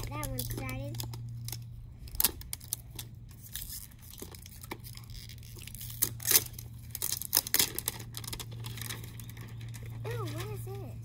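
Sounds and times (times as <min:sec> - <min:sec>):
plastic wrapper tearing and crinkling: 0:00.0 - 0:10.6.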